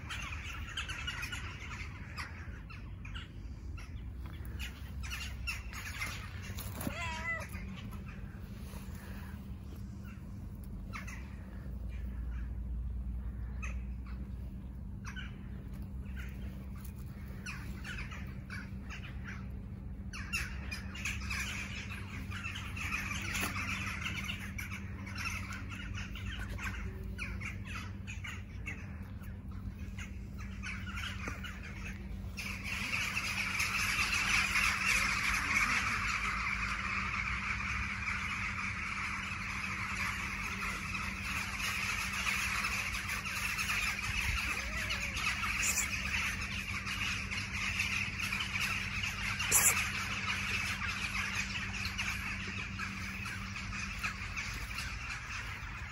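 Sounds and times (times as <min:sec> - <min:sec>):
crows cawing: 0:00.0 - 0:55.9.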